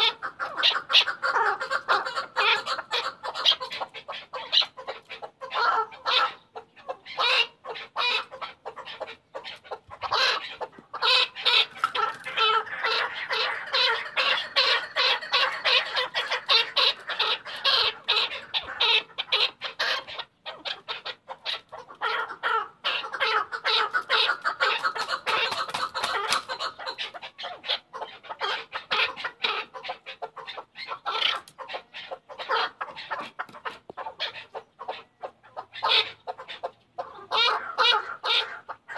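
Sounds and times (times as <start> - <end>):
partridge chattering calls: 0.0 - 38.9.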